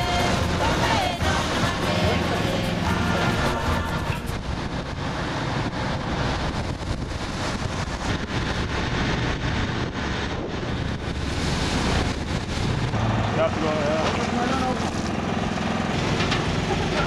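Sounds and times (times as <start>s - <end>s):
low engine drone: 0.0s - 17.0s
waves splashing: 0.0s - 17.0s
wind buffeting microphone: 2.9s - 17.0s.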